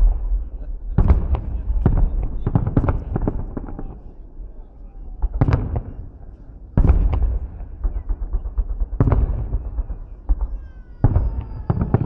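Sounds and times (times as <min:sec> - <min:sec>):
fireworks booms: 0:00.0 - 0:12.0.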